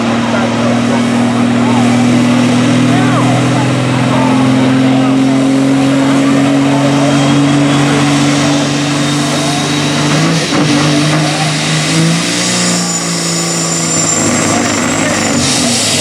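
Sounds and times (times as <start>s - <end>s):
diesel truck engine running hard: 0.0s - 16.0s.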